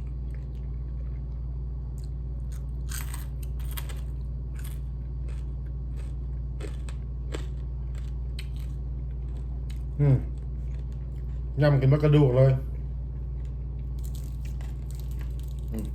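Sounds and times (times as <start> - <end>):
crunchy chewing: 0.0 - 11.6, 12.7 - 15.9
steady low hum: 0.0 - 15.9.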